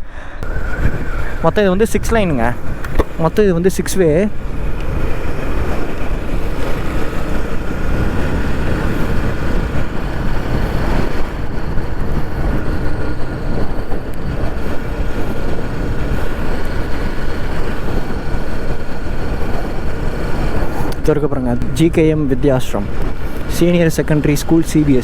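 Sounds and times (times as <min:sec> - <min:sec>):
road and wind noise: 0:00.0 - 0:25.0
motorcycle engine: 0:00.4 - 0:25.0.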